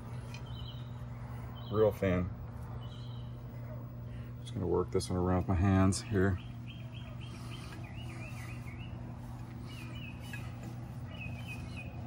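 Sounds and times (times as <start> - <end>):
small bird singing: 0.0 - 12.0
steady low hum: 0.0 - 12.0.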